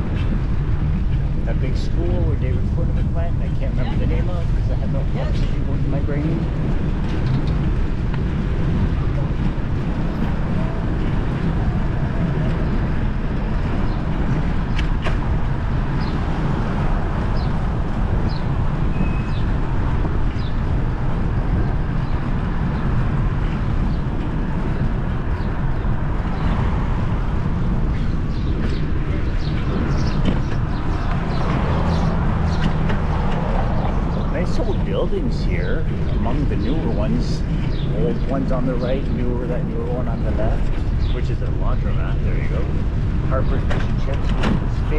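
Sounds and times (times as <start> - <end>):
street traffic: 0.0 - 44.9
wind rushing: 0.0 - 44.9.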